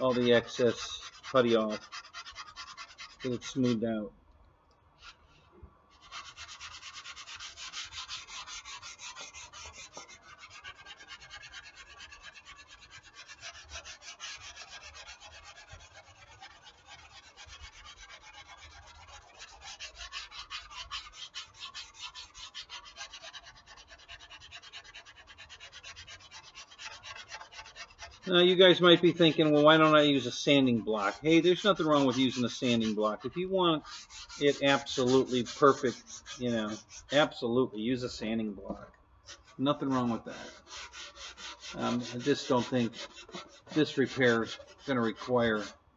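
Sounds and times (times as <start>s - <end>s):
sandpaper rubbing: 0.0s - 3.8s, 5.9s - 37.4s, 39.3s - 45.8s.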